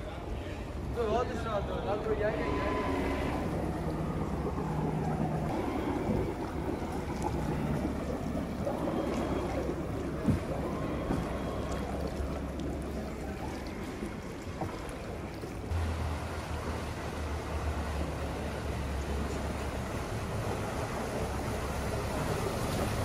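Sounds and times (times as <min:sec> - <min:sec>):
low steady rumble: 0:00.0 - 0:23.0
water lapping around a boat: 0:00.0 - 0:23.0.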